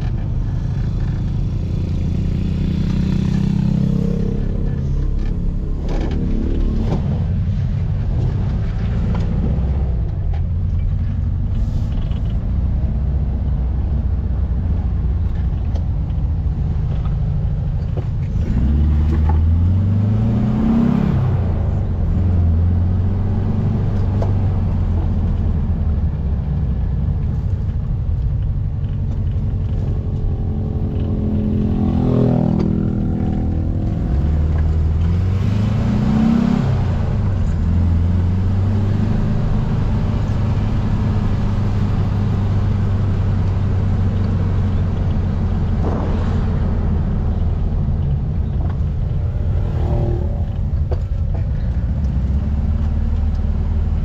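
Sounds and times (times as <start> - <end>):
car engine revving: 0.0 - 14.6, 15.2 - 54.0.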